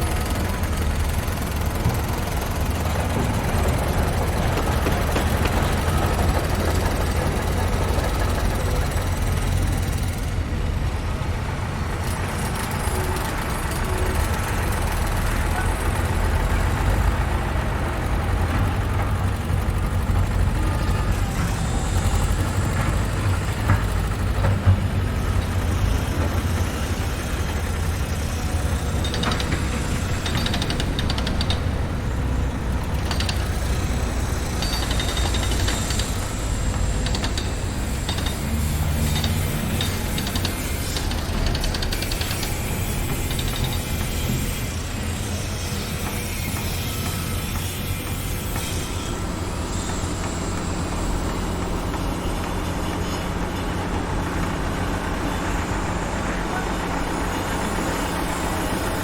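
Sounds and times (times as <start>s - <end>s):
heavy engine rumbling: 0.0s - 59.0s.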